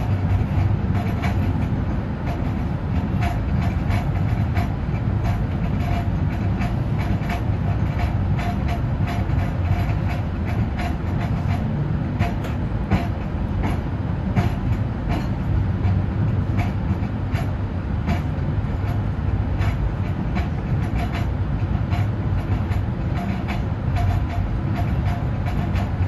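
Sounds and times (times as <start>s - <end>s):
train rumbling on rails: 0.0s - 26.0s
wheel clicks and knocks: 0.0s - 26.0s.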